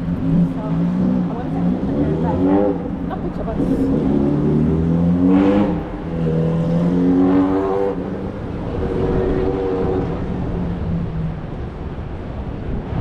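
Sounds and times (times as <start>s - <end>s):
vehicle engine revving: 0.0s - 11.8s
low traffic rumble: 0.0s - 13.0s.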